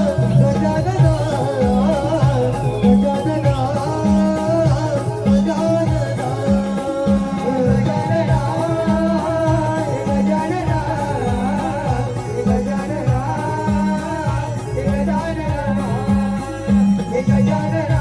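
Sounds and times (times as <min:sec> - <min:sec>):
person singing devotional song: 0:00.0 - 0:18.0
steady repeating drum beat: 0:00.0 - 0:18.0.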